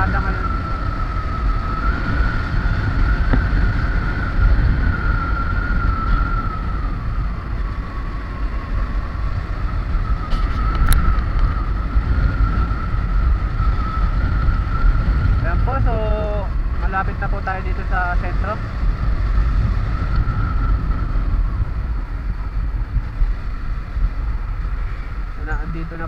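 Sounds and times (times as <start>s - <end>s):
motorcycle engine rumble: 0.0s - 26.0s
steady high whine: 0.0s - 26.0s
wind rush on microphone: 0.0s - 26.0s.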